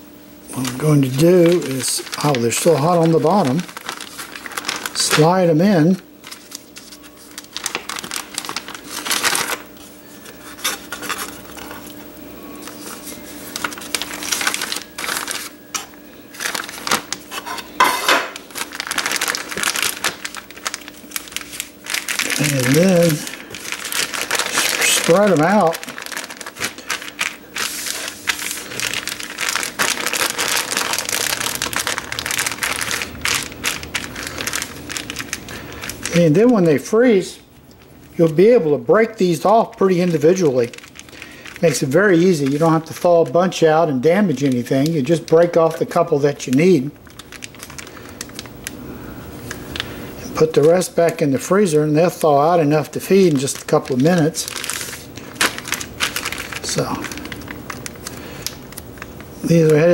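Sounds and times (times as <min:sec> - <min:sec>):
plastic bag crinkling: 0:00.5 - 0:59.9.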